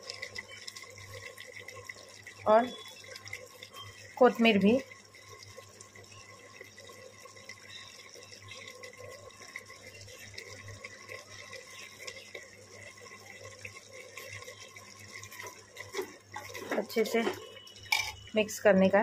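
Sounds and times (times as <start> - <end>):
gravy bubbling in pot: 0.0 - 19.0.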